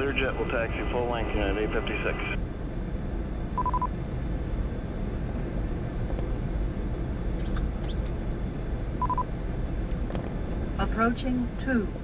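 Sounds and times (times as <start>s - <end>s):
rumble of airflow and engines: 0.0s - 12.0s.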